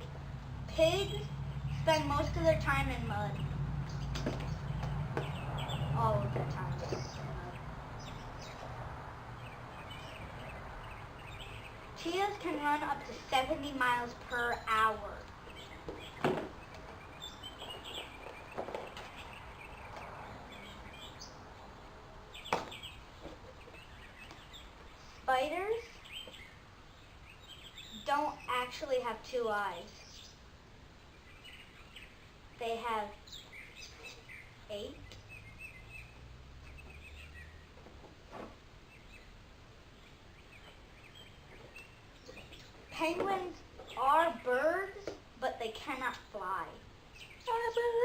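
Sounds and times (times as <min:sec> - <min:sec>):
low background hum: 0:00.0 - 0:48.0
small birds chirping: 0:00.0 - 0:48.0
steady outdoor noise: 0:00.0 - 0:48.0.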